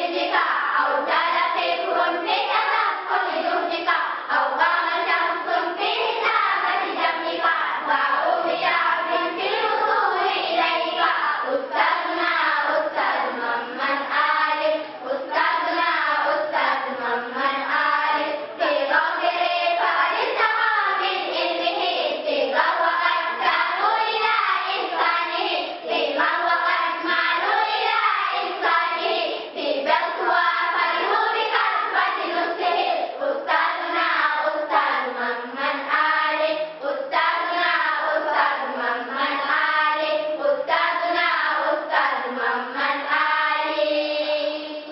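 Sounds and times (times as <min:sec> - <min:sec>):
children's choir singing: 0:00.0 - 0:44.9.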